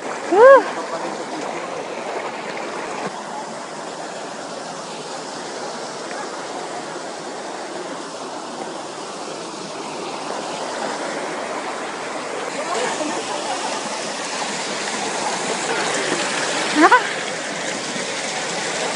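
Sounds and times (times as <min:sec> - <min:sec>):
stream rushing over boulders: 0:00.0 - 0:18.9.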